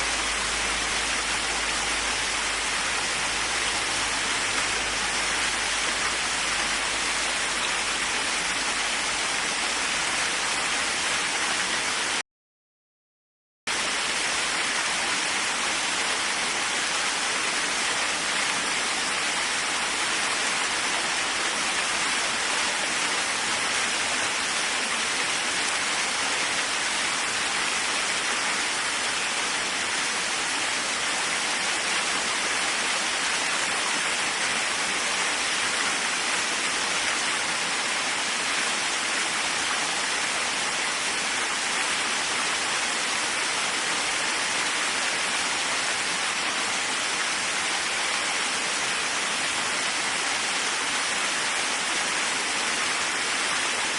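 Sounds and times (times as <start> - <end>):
waterfall rushing: 0.0 - 12.2, 13.7 - 53.9.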